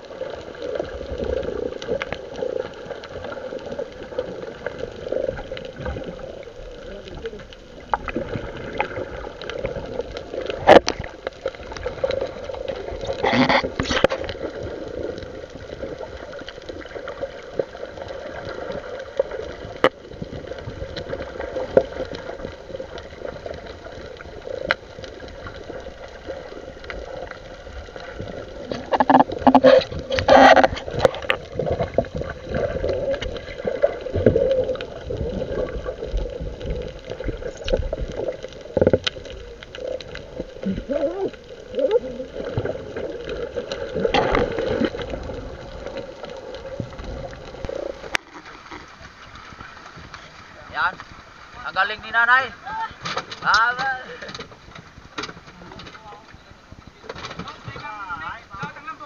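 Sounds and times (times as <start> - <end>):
water sloshing and splashing: 0.0 - 59.0.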